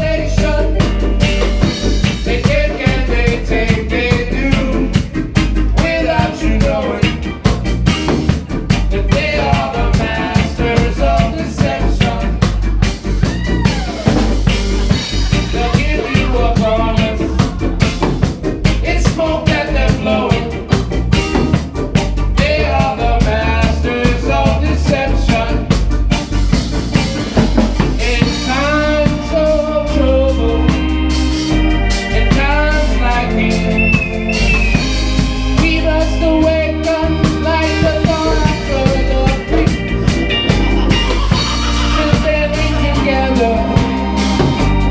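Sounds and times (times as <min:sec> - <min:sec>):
reggae band playing: 0:00.0 - 0:44.9.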